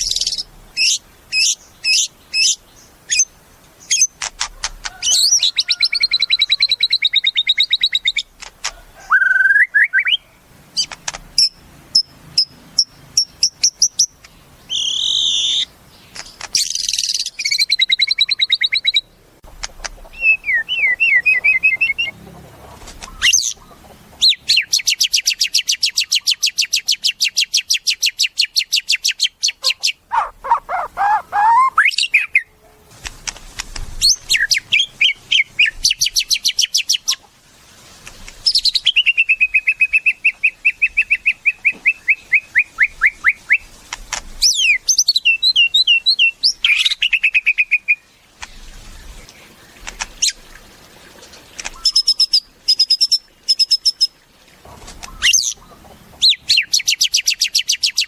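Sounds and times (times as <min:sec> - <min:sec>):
songbird singing: 0:00.0 - 0:32.9, 0:34.0 - 0:37.3, 0:38.3 - 0:43.8, 0:44.4 - 0:54.2, 0:54.9 - 0:58.0.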